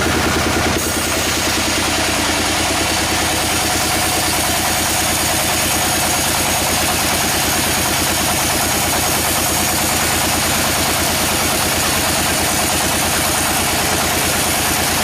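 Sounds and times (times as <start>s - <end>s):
sawmill machine engine running: 0.0s - 15.0s.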